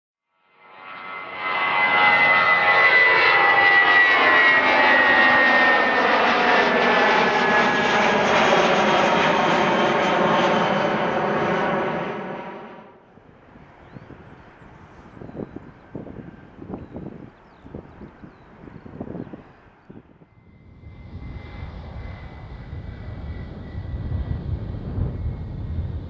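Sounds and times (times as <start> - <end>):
jet engines roaring with whine: 0.5 - 26.0
faint wind: 1.0 - 26.0.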